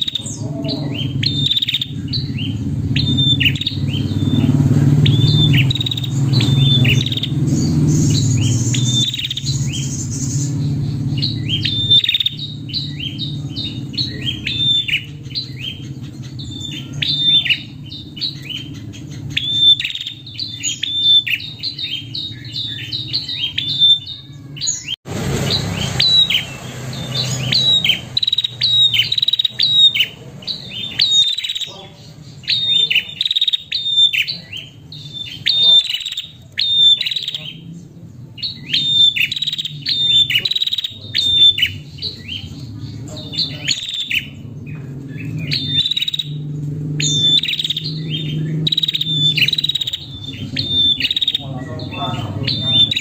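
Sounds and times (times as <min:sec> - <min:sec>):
bird chirping rapidly: 0:00.0 - 0:53.0.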